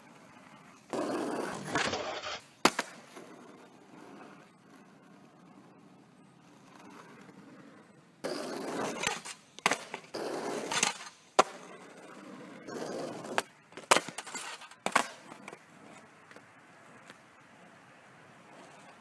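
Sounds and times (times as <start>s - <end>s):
skateboard wheels rolling on asphalt: 0.0s - 19.0s
skateboard clacking: 0.1s - 5.8s, 8.2s - 19.0s.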